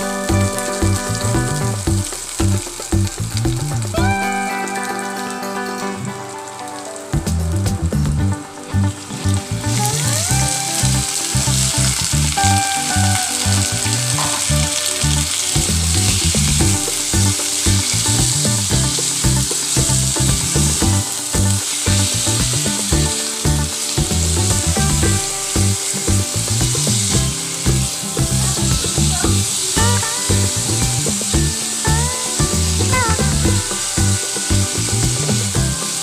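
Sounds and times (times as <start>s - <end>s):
food sizzling in a pan: 0.0s - 7.2s, 8.6s - 36.0s
background music with beat: 0.0s - 36.0s.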